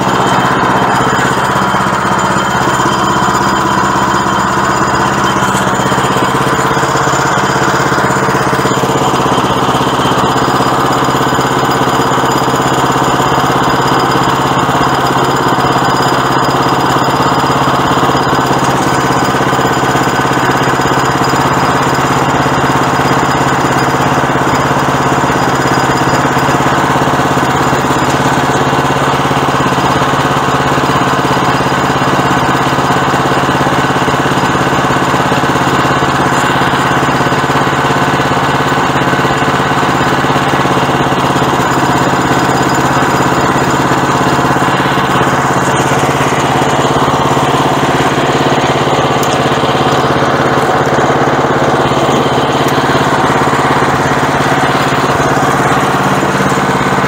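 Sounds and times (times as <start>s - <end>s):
small gas engine running: 0.0s - 57.0s.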